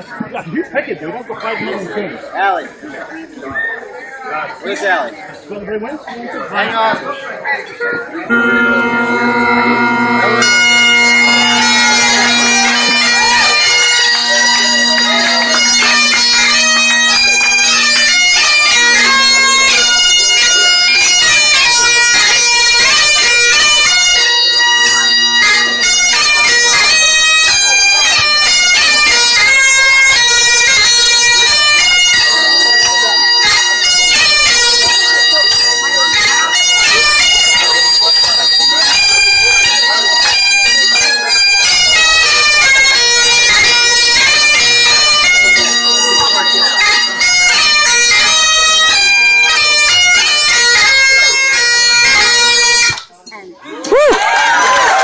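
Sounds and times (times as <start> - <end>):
bagpipes playing a tune: 8.2 - 53.1.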